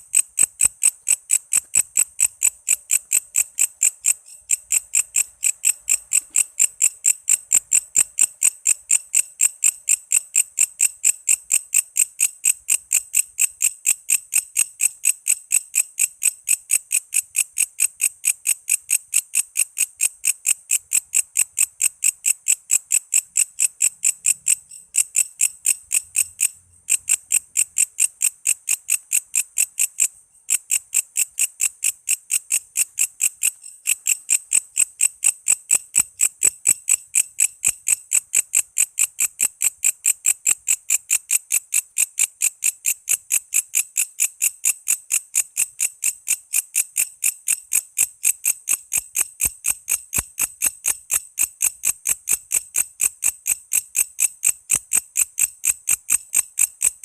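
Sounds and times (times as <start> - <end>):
insect high-pitched chirping: 0.0 - 57.0.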